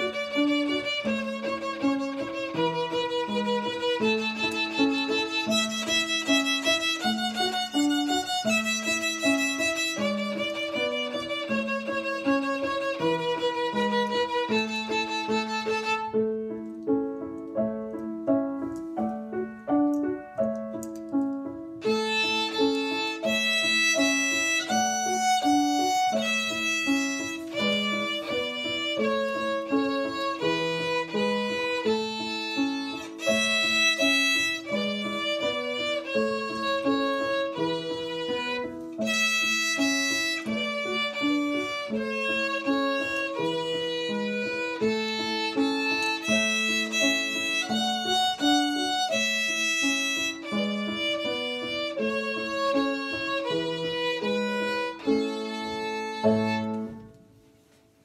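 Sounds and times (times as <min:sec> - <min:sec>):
violin playing quick melody: 0:00.0 - 0:16.5, 0:21.8 - 0:57.2.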